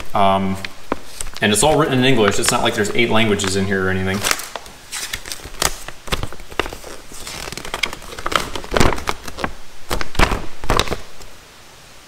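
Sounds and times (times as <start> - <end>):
paper snaps: 0.0 - 11.3
glossy paper rustling and crinkling: 0.0 - 11.4.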